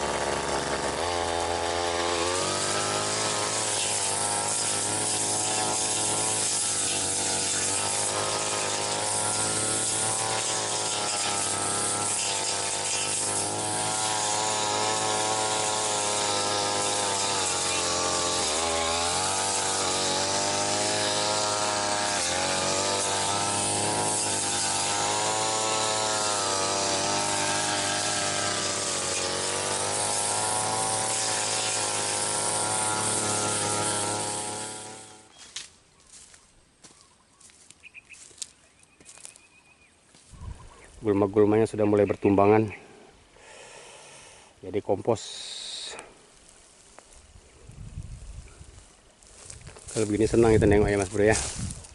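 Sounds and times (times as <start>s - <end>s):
brush cutter engine cutting weeds: 0.0s - 51.9s.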